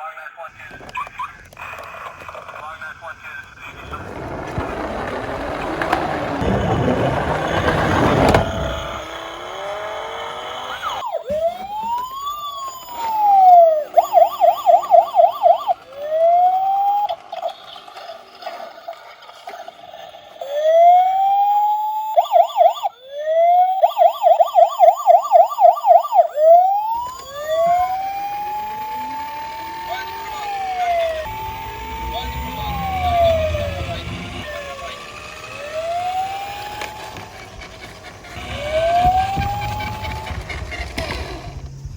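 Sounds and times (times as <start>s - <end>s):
rattling noise: 0.5s - 20.1s, 26.4s - 41.9s
toy police siren wailing: 0.7s - 41.6s.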